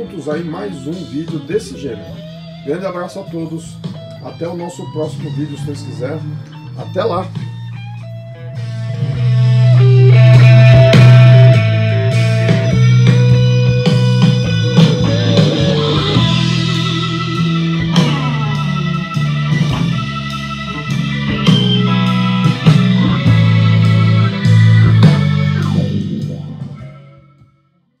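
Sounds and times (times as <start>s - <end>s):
rock music with guitar and drums: 0.0s - 27.5s.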